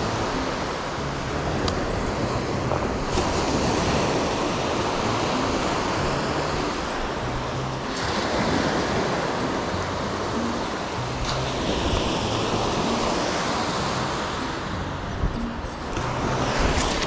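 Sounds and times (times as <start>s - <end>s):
small waves washing on sand: 0.0s - 14.8s, 15.8s - 17.0s.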